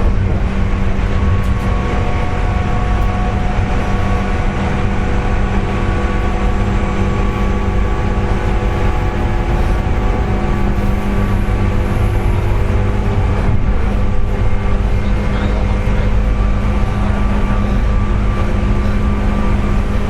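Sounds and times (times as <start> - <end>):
train motor whining: 0.0 - 20.0
train wheels rumbling on rails: 0.0 - 20.0.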